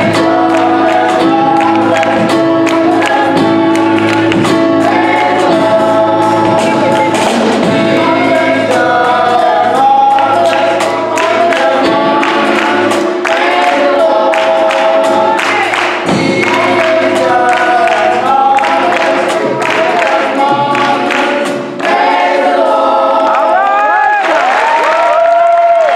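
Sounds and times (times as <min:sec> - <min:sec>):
gospel choir singing in harmony: 0:00.0 - 0:25.0.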